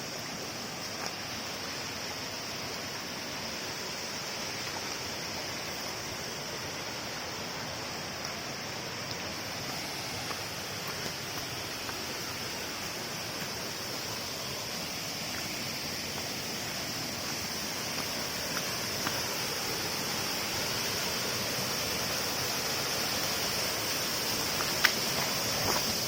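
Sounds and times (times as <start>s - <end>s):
steady high-pitched whine: 0.0s - 26.0s
waterfall rushing: 0.0s - 26.0s.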